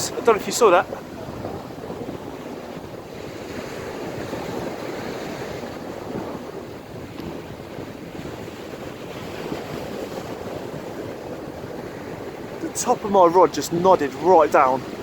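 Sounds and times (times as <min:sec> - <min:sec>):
surf breaking on a beach: 0:00.0 - 0:15.0
wind buffeting microphone: 0:00.0 - 0:15.0.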